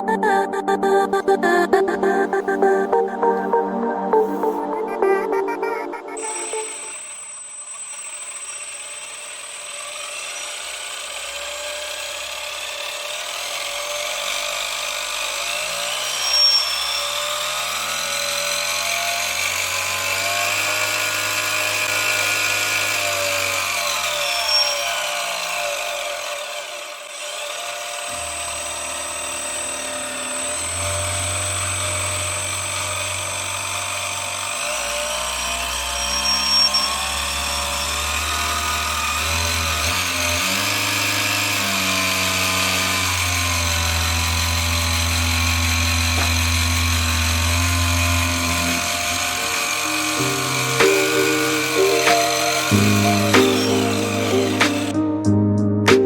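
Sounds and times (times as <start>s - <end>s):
small high-revving motor: 6.2s - 55.0s.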